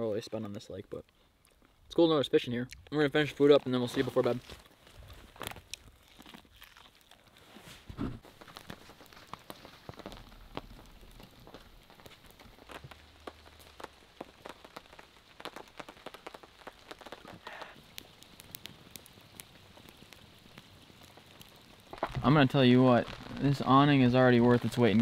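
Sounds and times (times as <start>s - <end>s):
rain on a tarp: 2.9s - 25.0s.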